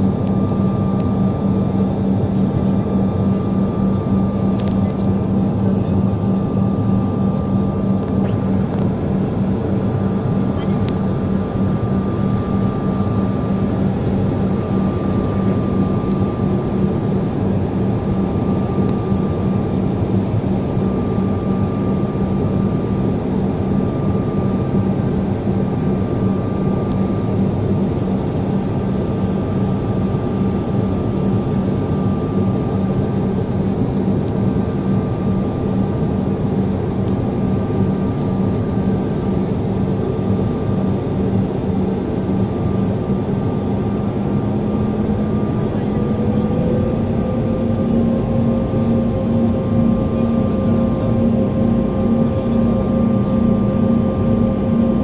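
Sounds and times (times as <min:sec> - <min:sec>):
airliner cabin engine noise: 0:00.0 - 0:55.0.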